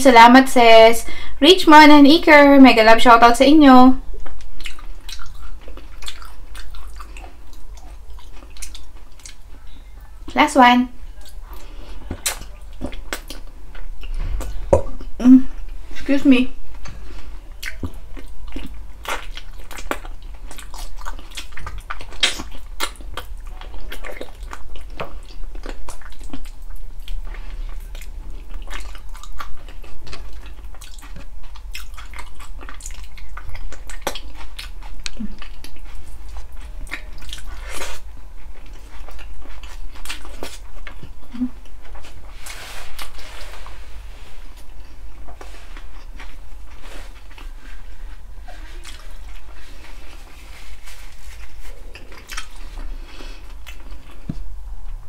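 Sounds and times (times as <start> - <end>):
chewing and wet mouth sounds: 4.0 - 15.9, 16.6 - 55.0.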